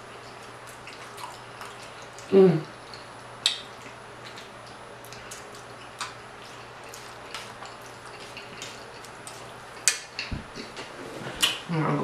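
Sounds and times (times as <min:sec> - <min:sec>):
chewing and lip smacking: 0:00.0 - 0:10.8
low steady hum: 0:00.0 - 0:12.0.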